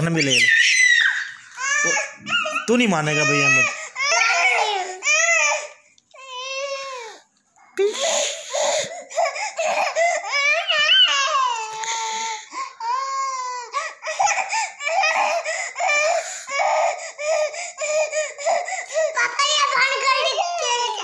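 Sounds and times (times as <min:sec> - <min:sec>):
baby crying: 0:00.0 - 0:07.2, 0:07.8 - 0:21.0.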